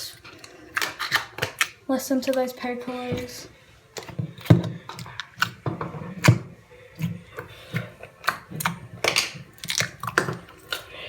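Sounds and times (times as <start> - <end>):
slime squished between hands: 0.0 - 2.4, 3.9 - 10.9.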